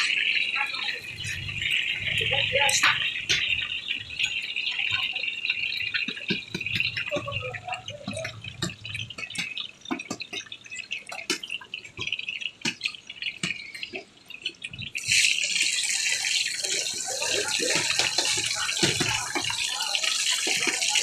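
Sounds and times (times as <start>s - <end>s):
chicken sizzling in oil: 0.0s - 21.0s
hot oil crackling and popping: 0.0s - 21.0s.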